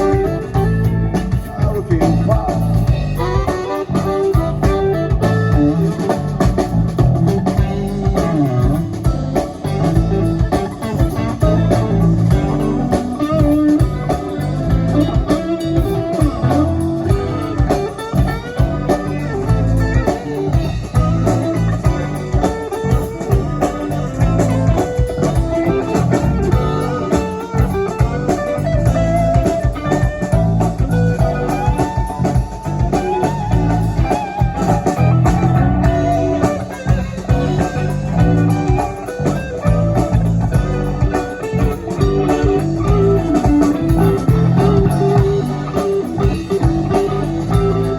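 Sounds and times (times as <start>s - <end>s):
electric guitar: 0.0s - 47.9s
live rock band playing: 0.0s - 47.9s.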